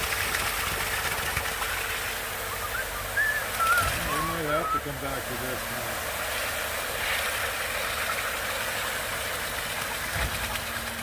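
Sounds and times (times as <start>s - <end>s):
concrete pump truck running: 0.0s - 11.0s.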